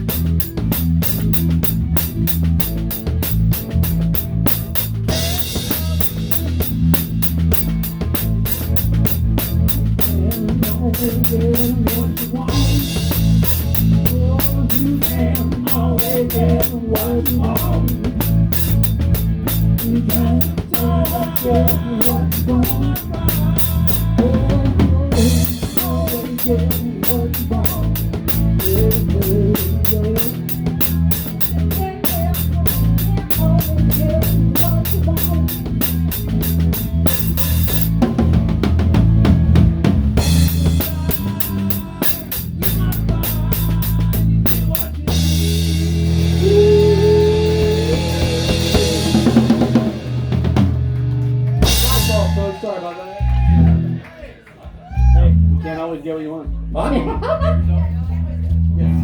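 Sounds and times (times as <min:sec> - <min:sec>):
guitar melody: 0:00.0 - 0:53.8
drum kit beat: 0:00.0 - 0:54.0
bass: 0:00.0 - 0:59.0.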